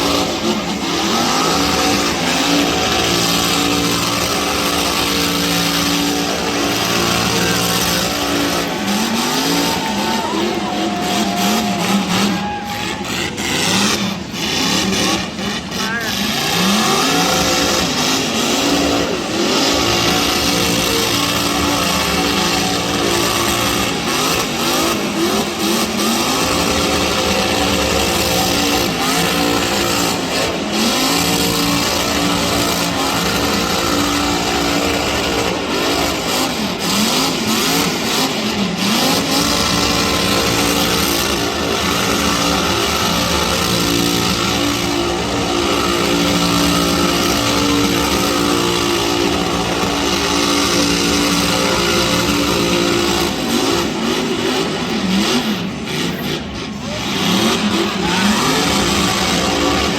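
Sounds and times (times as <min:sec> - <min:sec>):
car engine revving: 0:00.0 - 0:59.9
dense noisy background: 0:00.0 - 0:59.9.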